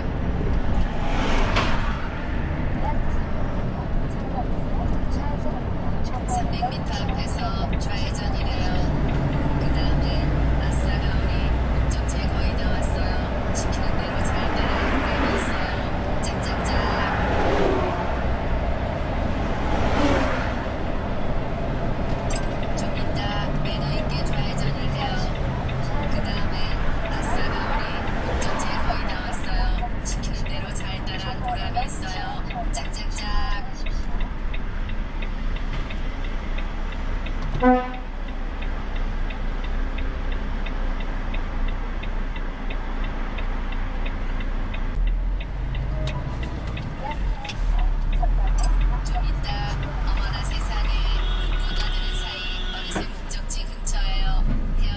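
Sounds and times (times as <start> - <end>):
truck engine rumble: 0.0 - 54.9
tyre and road noise: 0.0 - 54.9
turn signal ticking: 2.0 - 54.9.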